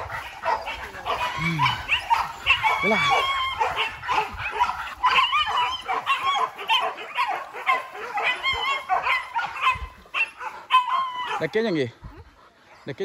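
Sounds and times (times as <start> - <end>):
dogs yelping and baying: 0.0 - 13.0.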